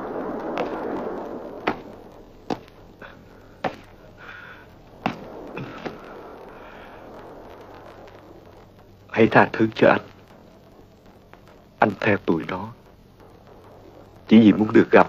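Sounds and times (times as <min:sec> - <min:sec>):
faint cracks: 0:00.0 - 0:15.0
gunshots: 0:00.0 - 0:15.0
noisy rush: 0:00.0 - 0:15.0.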